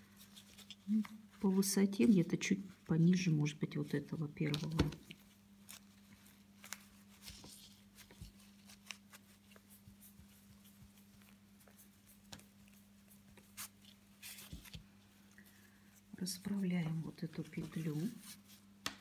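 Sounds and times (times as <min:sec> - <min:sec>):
low steady hum: 0:00.0 - 0:19.0
ribbon and needle rustling: 0:00.0 - 0:19.0.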